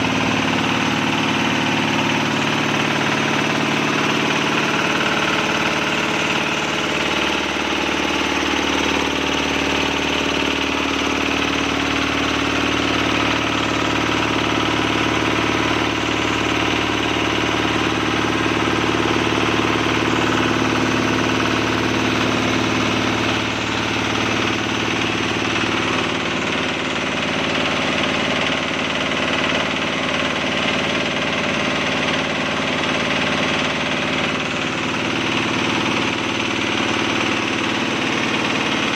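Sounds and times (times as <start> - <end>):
diesel air compressor running: 0.0 - 38.9.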